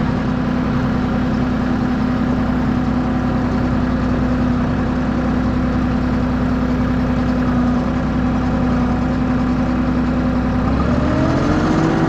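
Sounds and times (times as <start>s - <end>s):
stump grinder engine running: 0.0s - 12.0s.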